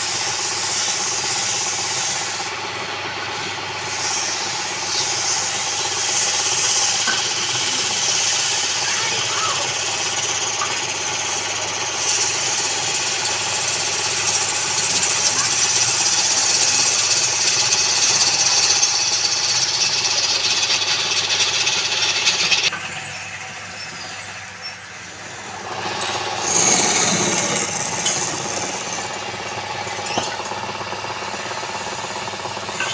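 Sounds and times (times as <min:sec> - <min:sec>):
hiss of tool on spinning wood: 0:00.0 - 0:22.7, 0:25.4 - 0:32.9
lathe humming: 0:00.0 - 0:32.9.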